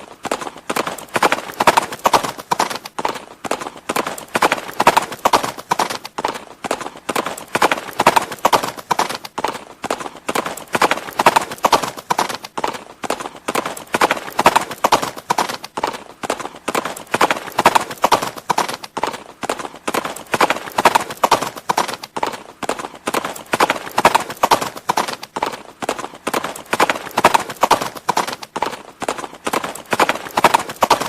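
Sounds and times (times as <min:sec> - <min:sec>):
horse hooves clip-clopping: 0:00.0 - 0:31.0.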